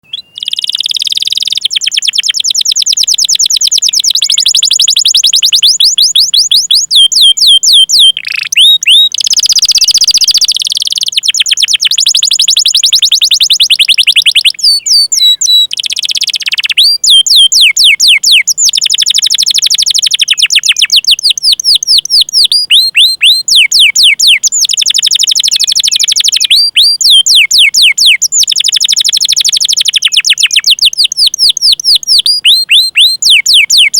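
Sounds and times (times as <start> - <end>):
canary singing: 0.0 - 33.9.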